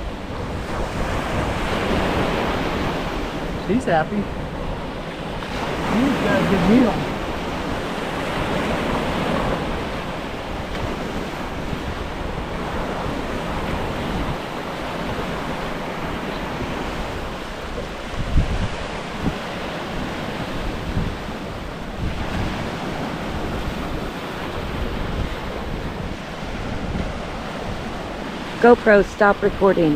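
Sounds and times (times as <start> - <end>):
low wind buffets on microphone: 0.0 - 29.9
surf washing: 0.0 - 29.9
wind on microphone: 0.0 - 29.9.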